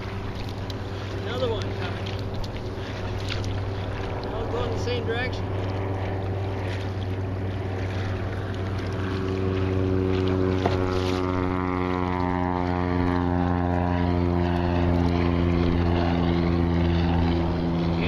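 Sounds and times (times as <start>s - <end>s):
low engine drone: 0.0s - 18.0s
seaplane propeller engine passing: 0.0s - 18.0s.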